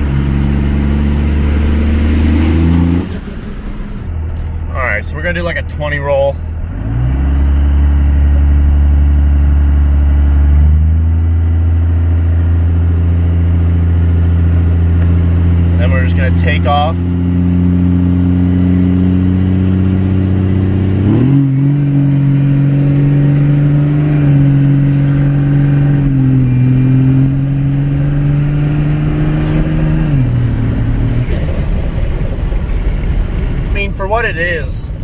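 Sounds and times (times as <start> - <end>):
diesel engine under full throttle: 0.0 - 35.0.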